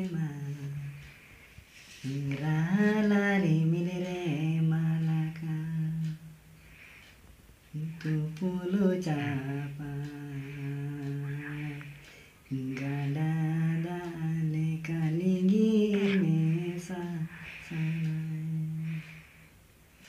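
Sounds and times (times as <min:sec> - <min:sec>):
man singing unaccompanied: 0:00.0 - 0:06.9, 0:07.6 - 0:19.4.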